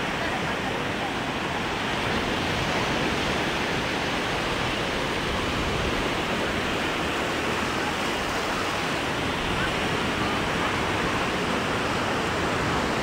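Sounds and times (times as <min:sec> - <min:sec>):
sea surf rushing: 0:00.0 - 0:13.0.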